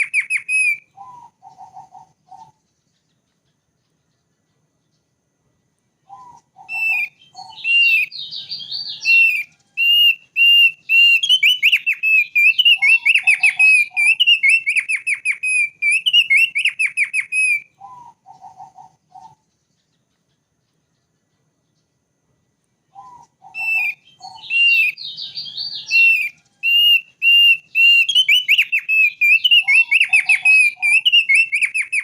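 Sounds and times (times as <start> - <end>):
bird song with whistled trills: 0.0 - 5.3, 6.0 - 22.2, 22.8 - 32.0.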